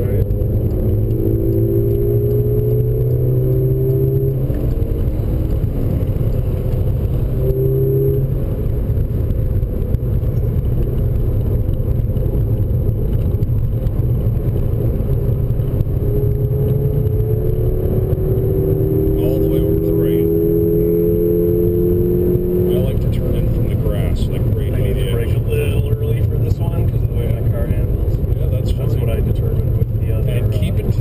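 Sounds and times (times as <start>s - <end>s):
car engine accelerating: 0.0s - 31.0s
road and tyre noise: 0.0s - 31.0s.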